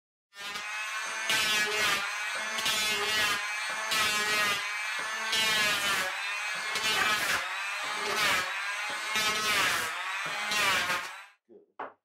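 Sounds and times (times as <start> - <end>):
electric planer cutting wood: 0.4 - 11.4.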